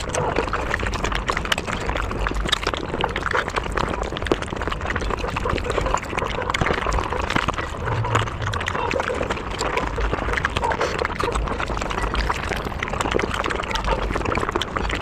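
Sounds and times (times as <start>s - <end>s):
small clicks and crackles: 0.0s - 15.0s
wet chewing and smacking: 0.0s - 15.0s.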